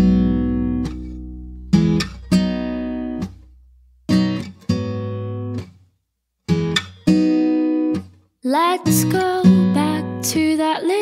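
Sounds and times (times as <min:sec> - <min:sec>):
acoustic guitar strumming chords: 0:00.0 - 0:05.8, 0:06.5 - 0:11.0.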